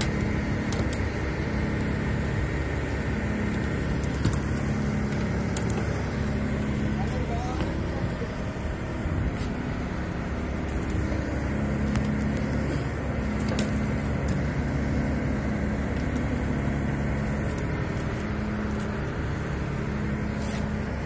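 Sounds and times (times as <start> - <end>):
ship engine droning: 0.0 - 21.0.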